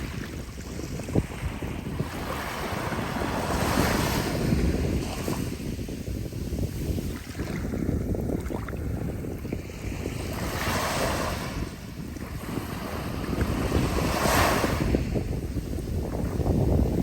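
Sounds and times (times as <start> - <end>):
ocean waves breaking on shore: 0.0 - 17.0
wind rumble on microphone: 0.0 - 17.0.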